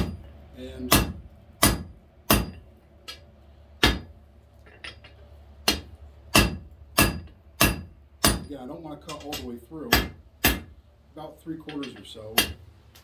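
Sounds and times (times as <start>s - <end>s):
hammer striking hot steel: 0.0s - 3.2s, 3.8s - 4.2s, 4.8s - 10.7s, 11.6s - 12.6s.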